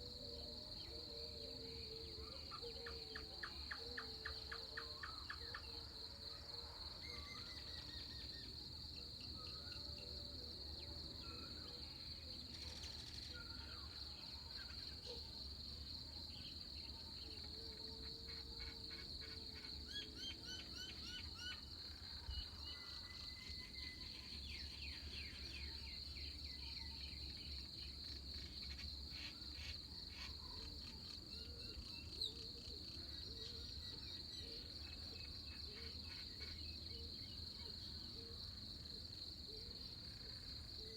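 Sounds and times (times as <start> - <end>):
faint bird calls and trills: 0.0 - 40.9
insect chorus: 0.0 - 40.9.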